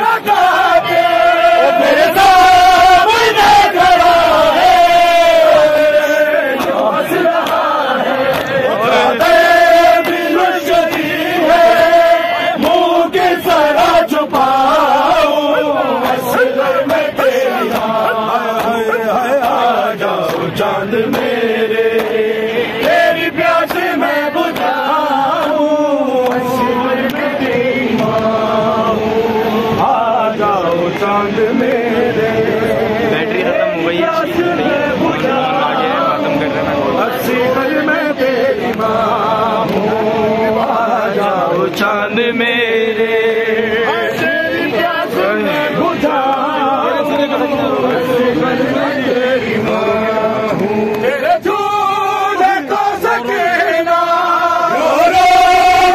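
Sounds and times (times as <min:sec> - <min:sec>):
crowd chanting a lament: 0:00.0 - 0:55.9.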